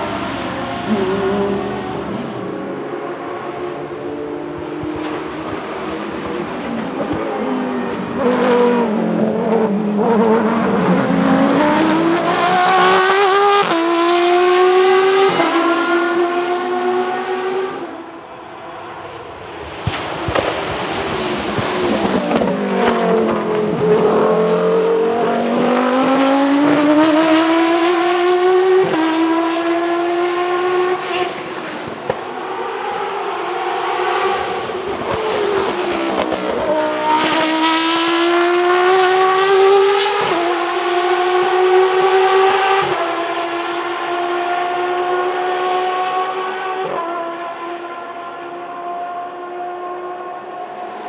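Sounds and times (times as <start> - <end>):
racing car engine passing: 0.0 - 51.0.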